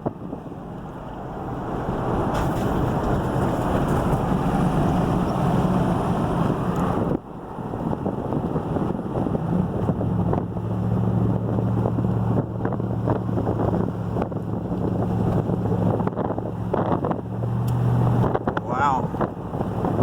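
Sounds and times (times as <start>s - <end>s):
road noise: 0.0s - 20.0s
vehicle engine drone: 0.0s - 20.0s
wind buffeting microphone: 0.0s - 20.0s.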